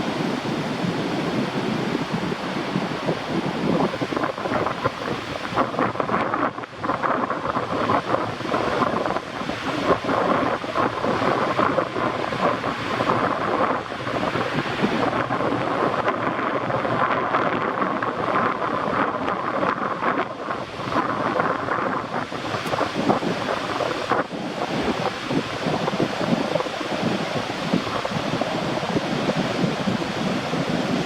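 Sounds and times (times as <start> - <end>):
wind and rain rushing: 0.0 - 31.0
wind buffeting microphone: 0.0 - 31.0.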